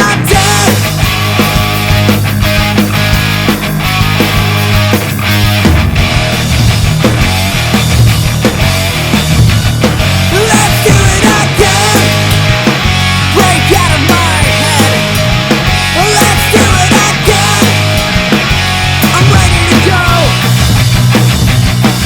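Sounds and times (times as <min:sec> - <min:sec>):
bass line: 0:00.0 - 0:22.0
distorted guitars: 0:00.0 - 0:22.0
punk rock music: 0:00.0 - 0:22.0.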